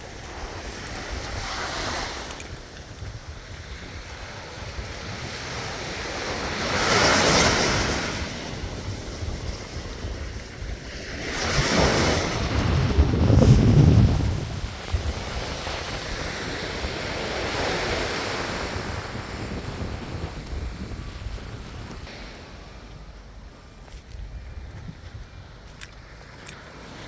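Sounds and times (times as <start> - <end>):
sea waves breaking: 0.0 - 27.0
wind buffeting microphone: 0.0 - 27.0.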